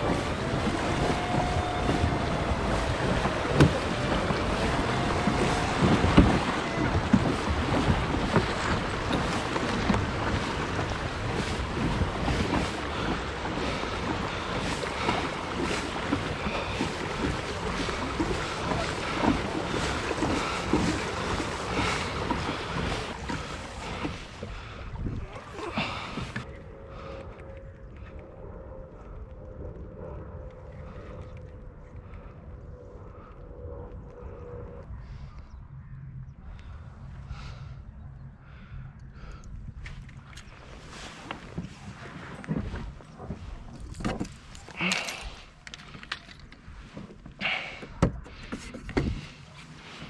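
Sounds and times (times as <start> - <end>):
water rushing along hull: 0.0 - 35.6, 36.3 - 50.0
wind buffeting microphone: 0.0 - 50.0.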